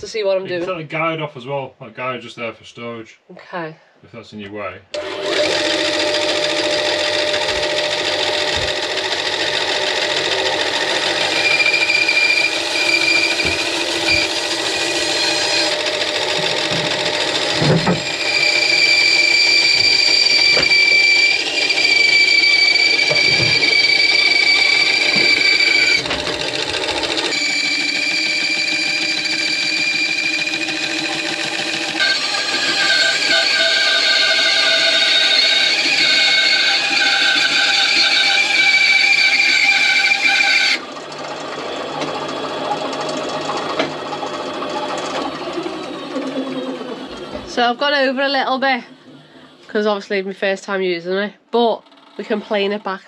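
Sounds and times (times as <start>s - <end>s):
bandsaw cutting wood: 5.0s - 49.8s, 51.9s - 53.0s.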